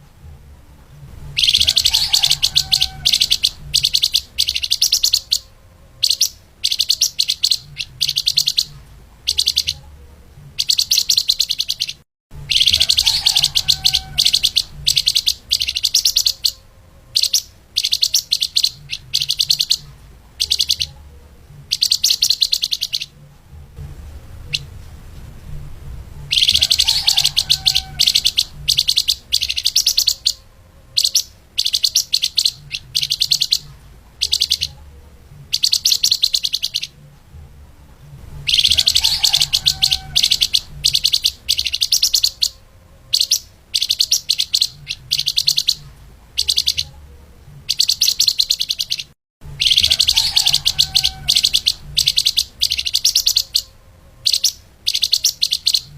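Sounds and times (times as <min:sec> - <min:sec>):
faint low hum: 0:00.0 - 0:55.9
songbird chirping fast: 0:01.1 - 0:23.3, 0:26.2 - 0:34.9, 0:35.5 - 0:37.0, 0:38.4 - 0:47.0, 0:47.6 - 0:55.9.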